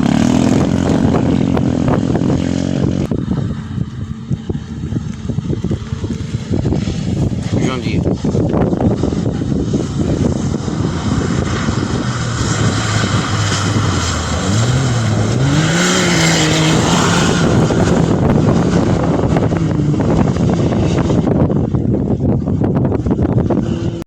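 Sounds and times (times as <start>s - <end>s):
distant vehicle engine: 0.0s - 24.0s
wind on microphone: 0.0s - 24.0s.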